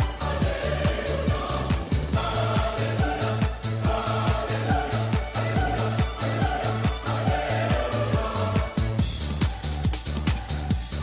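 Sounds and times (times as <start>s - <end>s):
music with driving kick-drum beat: 0.0s - 11.0s.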